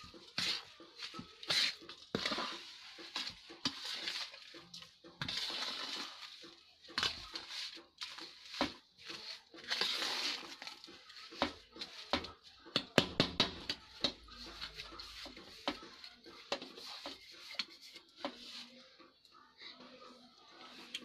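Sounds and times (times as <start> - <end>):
spoon scraping dry mixture in bowl: 0.0 - 19.2.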